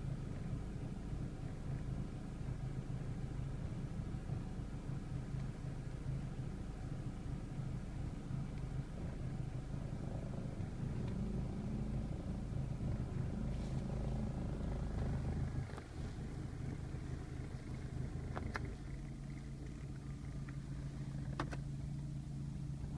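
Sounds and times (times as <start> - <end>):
heater blower fan humming: 0.0 - 22.9.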